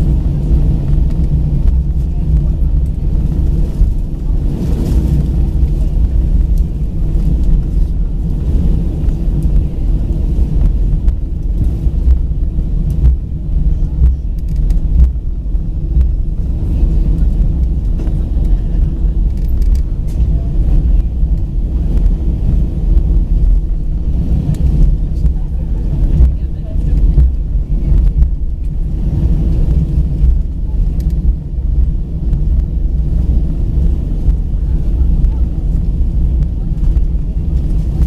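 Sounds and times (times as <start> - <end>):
aircraft rolling on ground: 0.0 - 38.0
jet engines rumbling: 0.0 - 38.0.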